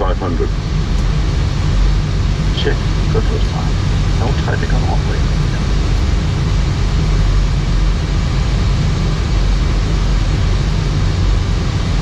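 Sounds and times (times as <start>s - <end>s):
aircraft flight deck drone: 0.0s - 12.0s.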